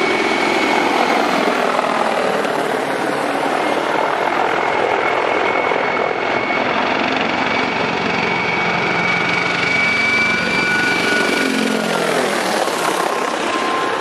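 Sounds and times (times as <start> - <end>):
helicopter flying low: 0.0 - 14.0.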